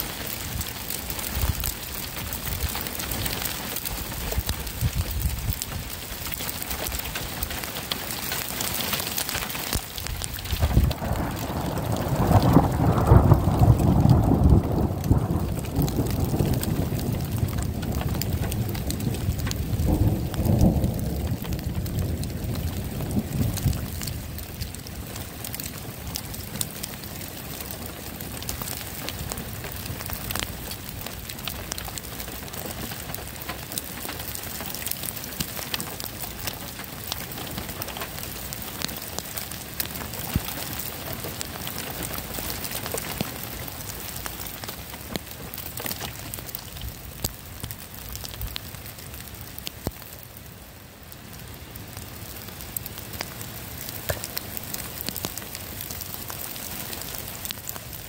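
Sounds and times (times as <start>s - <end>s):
steady rain with drop hits: 0.0s - 58.0s.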